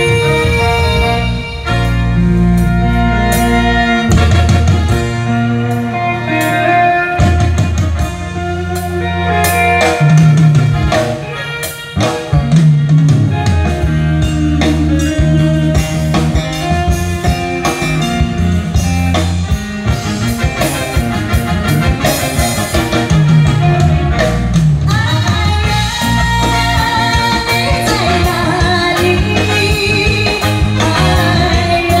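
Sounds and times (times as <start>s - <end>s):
pop band music: 0.0s - 32.0s.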